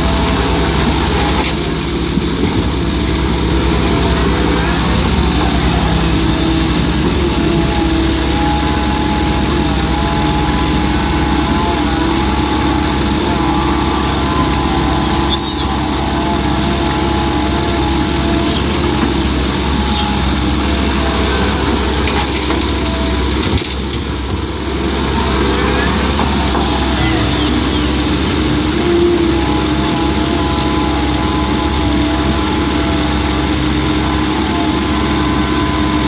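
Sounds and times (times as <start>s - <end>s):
excavator diesel engine under load: 0.0s - 36.0s.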